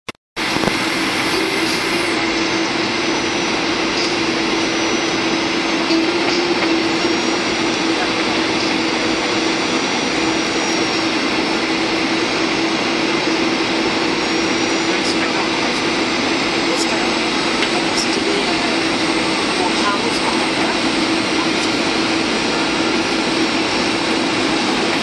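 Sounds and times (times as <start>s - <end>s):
faint high whine: 0.4s - 25.0s
turbofan engine drone: 0.4s - 25.0s.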